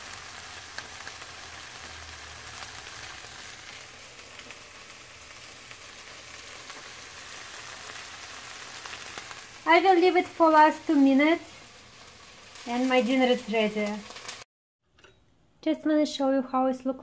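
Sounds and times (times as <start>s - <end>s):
fish sizzling in a pan: 0.0s - 14.5s.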